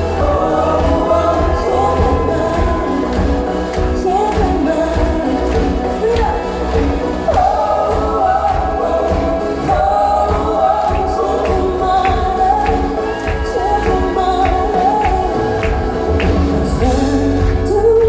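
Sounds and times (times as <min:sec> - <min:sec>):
band playing: 0:00.0 - 0:18.0
steady drum beat: 0:00.0 - 0:18.0
voices singing: 0:00.0 - 0:18.0.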